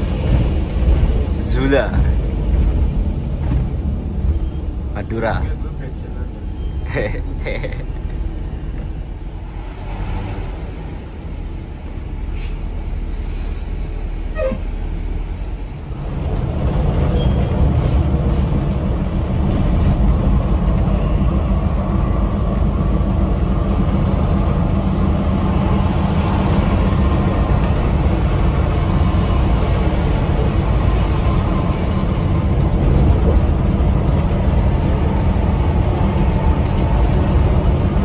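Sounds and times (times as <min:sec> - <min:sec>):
coach engine and tyre rumble: 0:00.0 - 0:38.0.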